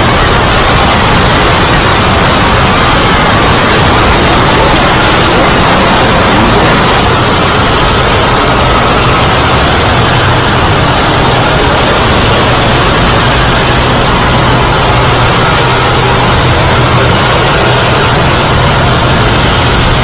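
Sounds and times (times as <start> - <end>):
loud distorted static noise: 0.0 - 20.0
low hum: 0.0 - 20.0.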